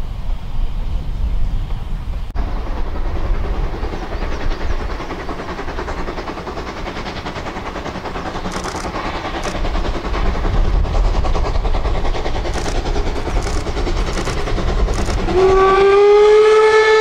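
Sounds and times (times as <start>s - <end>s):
distant steam locomotive exhaust beating: 1.7s - 17.0s.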